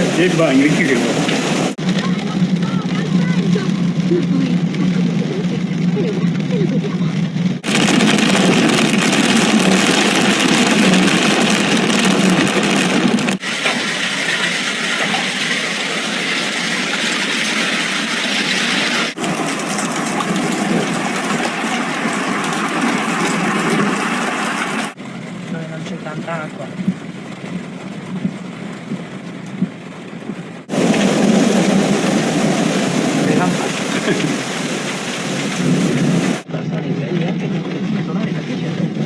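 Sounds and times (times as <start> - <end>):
hail pelting down: 0.0 - 39.0.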